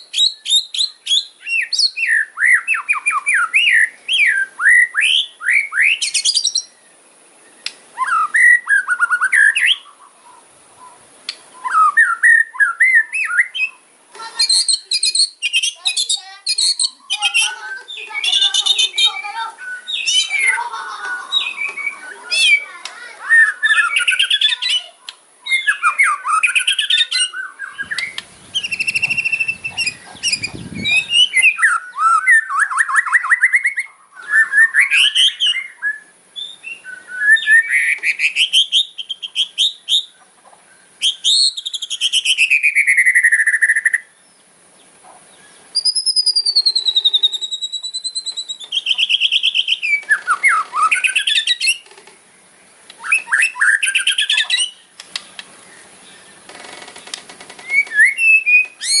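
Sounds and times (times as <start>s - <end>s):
songbird trills and whistles: 0.0s - 44.4s, 45.3s - 51.9s, 52.9s - 56.5s, 57.6s - 59.0s.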